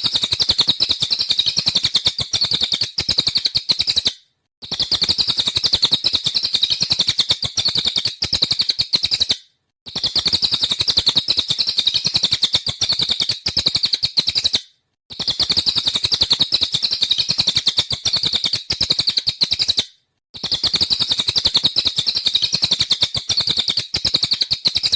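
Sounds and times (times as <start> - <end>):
bird fast high chattering song: 0.0 - 24.9.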